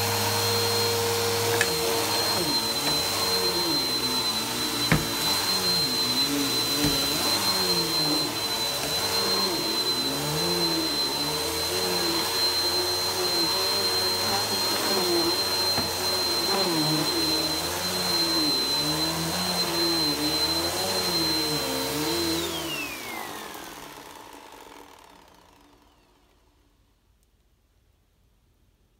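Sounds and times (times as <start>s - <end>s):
vacuum cleaner whine: 0.0s - 26.9s.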